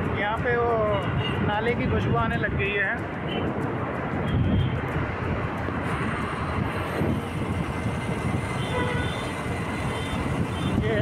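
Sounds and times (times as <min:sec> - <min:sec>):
motorbike engine and road noise: 0:00.0 - 0:11.0
wind over microphone: 0:00.0 - 0:11.0.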